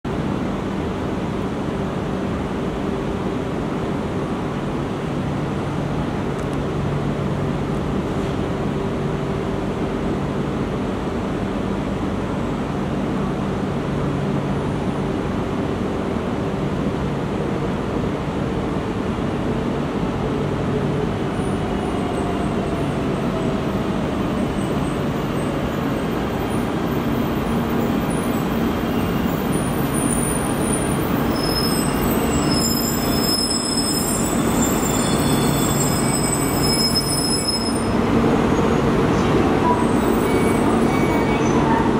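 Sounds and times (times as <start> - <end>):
high whines of slowing train: 0.1 - 41.9.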